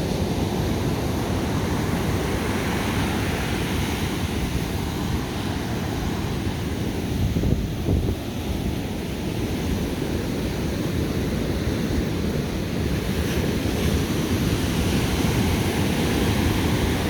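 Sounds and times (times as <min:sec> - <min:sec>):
ocean surf washing onto beach: 0:00.0 - 0:17.0
wind buffeting microphone: 0:00.0 - 0:17.0.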